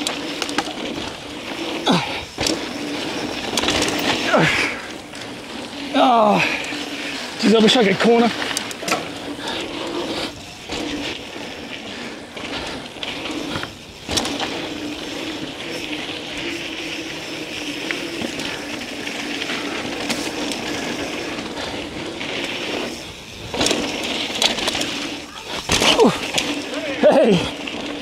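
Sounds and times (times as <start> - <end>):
bike tyres rolling on dirt: 0.0 - 28.0.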